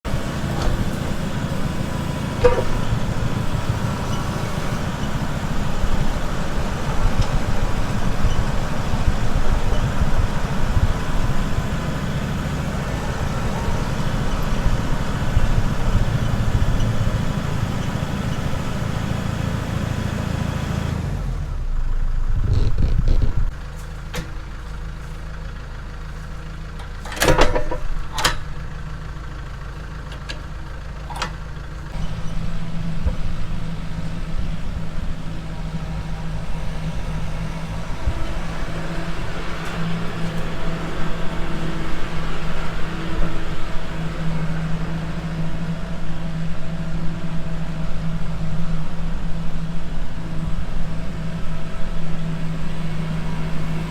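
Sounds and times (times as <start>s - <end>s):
engine low rumble: 0.0s - 53.9s.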